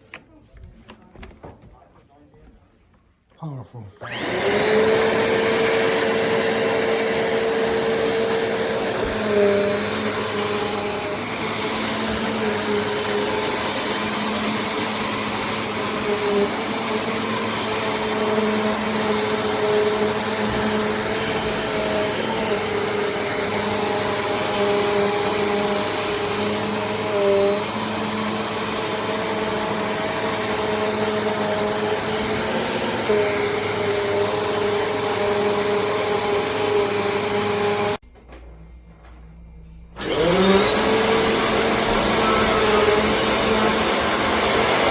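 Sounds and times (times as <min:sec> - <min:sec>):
vacuum cleaner running: 0:04.0 - 0:38.0, 0:39.1 - 0:44.9.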